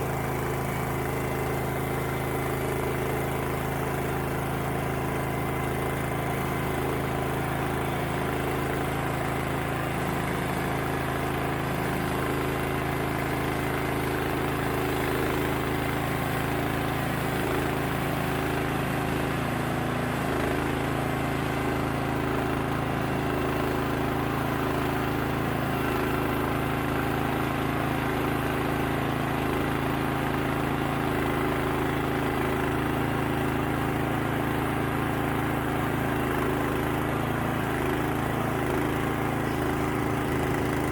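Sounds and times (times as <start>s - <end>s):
sawmill engine humming: 0.0s - 40.9s.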